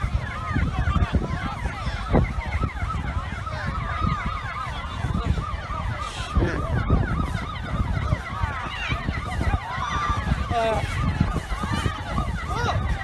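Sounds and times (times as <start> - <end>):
emergency sirens yelping: 0.0 - 13.0.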